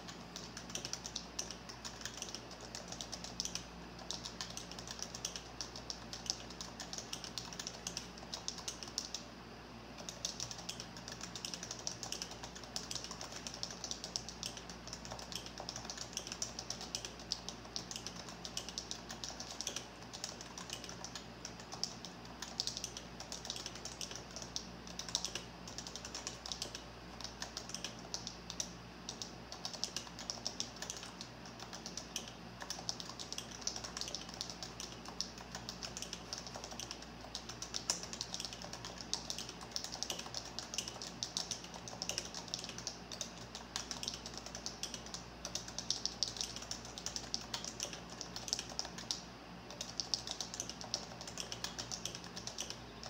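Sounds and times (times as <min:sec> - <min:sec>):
mechanical keyboard typing: 0:00.0 - 0:09.3, 0:10.0 - 0:53.0.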